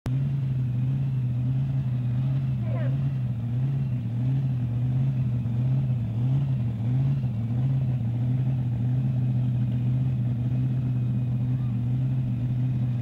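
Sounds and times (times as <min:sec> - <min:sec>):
buggy engine idling: 0:00.1 - 0:13.0.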